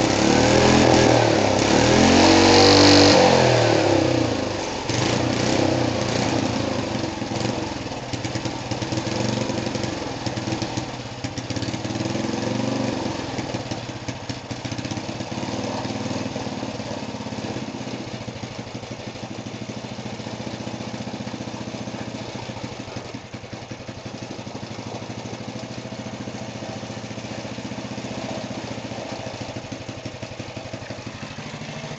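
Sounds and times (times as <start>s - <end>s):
single-cylinder engine running: 0.0s - 31.9s.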